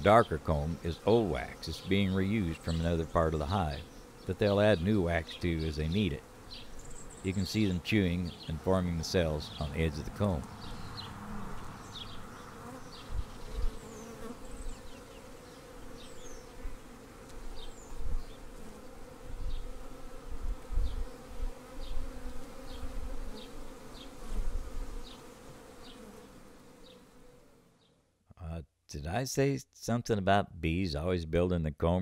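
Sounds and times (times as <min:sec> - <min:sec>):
bees buzzing: 0:00.0 - 0:27.8.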